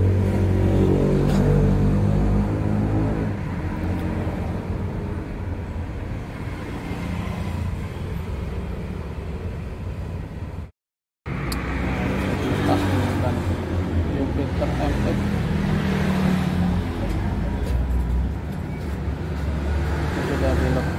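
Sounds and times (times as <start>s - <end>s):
motor vehicles rumbling: 0.0s - 10.7s, 11.3s - 20.9s.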